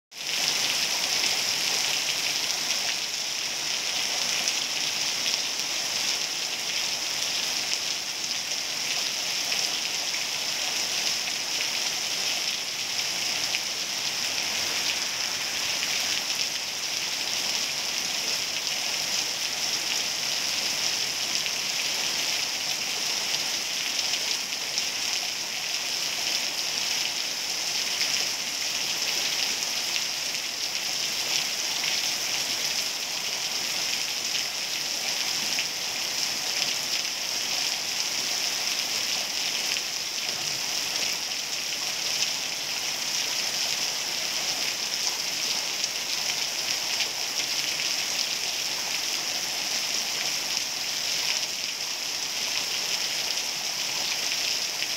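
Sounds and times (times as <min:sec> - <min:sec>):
heavy rain falling: 0:00.1 - 0:54.9.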